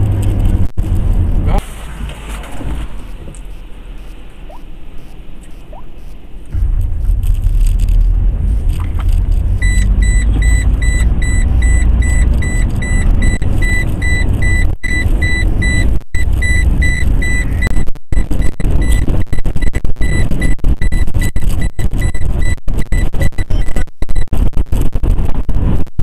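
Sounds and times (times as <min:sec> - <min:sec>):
road noise: 0:00.0 - 0:23.1
storm wind rumble: 0:00.0 - 0:23.4
rapid electronic beeping: 0:03.0 - 0:25.0.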